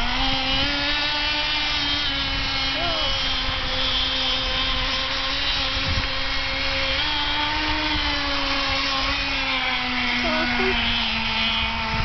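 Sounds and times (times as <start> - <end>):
model boat engine whining: 0.0 - 12.0.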